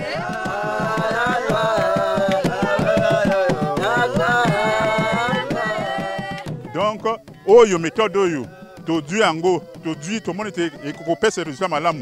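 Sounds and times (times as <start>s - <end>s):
quick steady drum beat: 0.0s - 12.0s.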